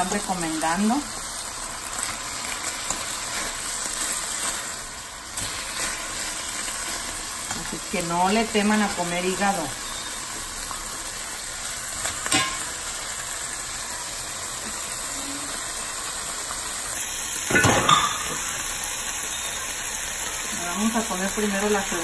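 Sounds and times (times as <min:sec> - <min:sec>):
liver sizzling in a pan: 0:00.0 - 0:22.0.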